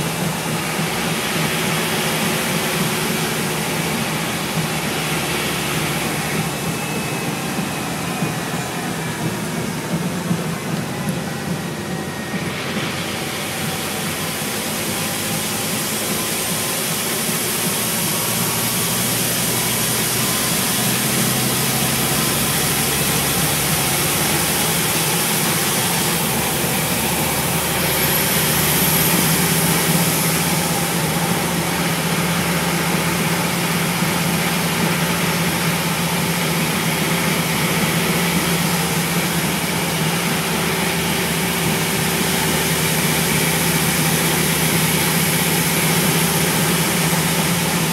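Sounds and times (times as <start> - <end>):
bus diesel engine running: 0.0 - 47.9
bus road and body noise: 0.0 - 47.9.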